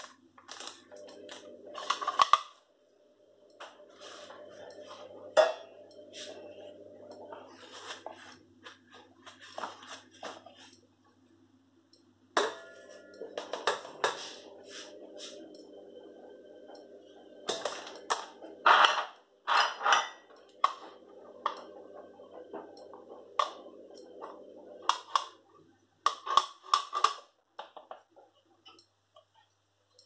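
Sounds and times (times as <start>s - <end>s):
steady low hum: 0.1s - 26.1s.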